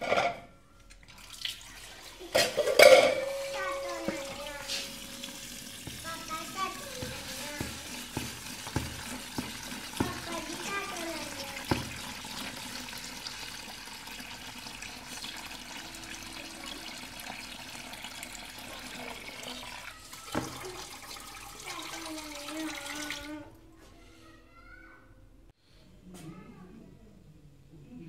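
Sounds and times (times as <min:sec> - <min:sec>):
tap water running into bowl: 0:01.0 - 0:23.5.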